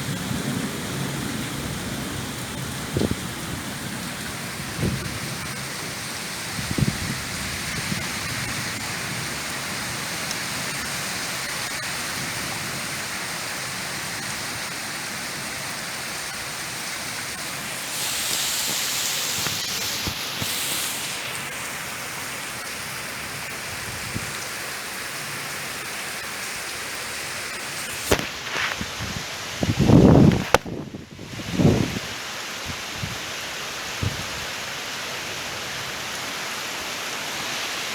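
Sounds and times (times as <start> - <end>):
steady rain hissing: 0.0 - 37.9.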